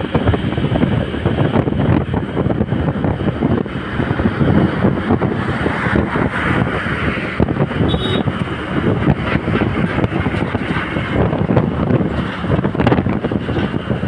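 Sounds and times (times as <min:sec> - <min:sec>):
road and traffic noise: 0:00.0 - 0:14.0
wind buffeting microphone: 0:00.0 - 0:14.0.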